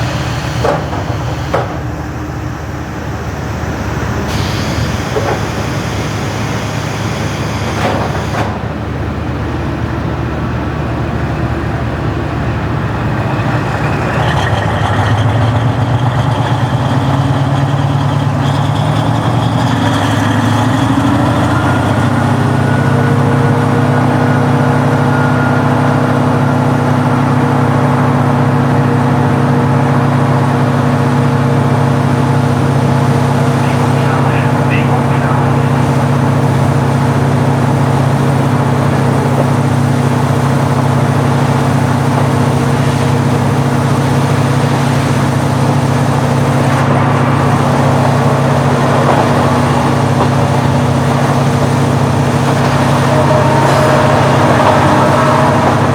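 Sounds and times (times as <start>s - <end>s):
railcar diesel engine under power: 0.0s - 55.9s.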